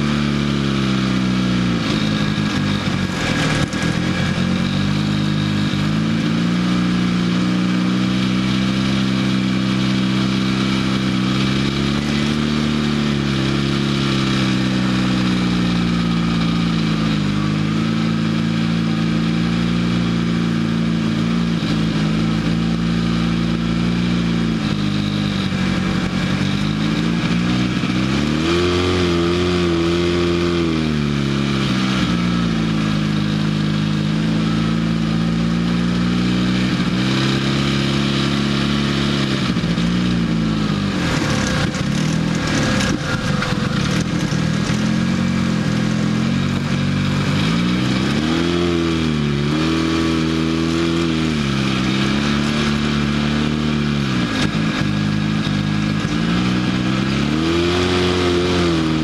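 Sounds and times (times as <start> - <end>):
off-road vehicle engine revving: 0.0 - 59.0
rough rushing noise: 0.0 - 59.0.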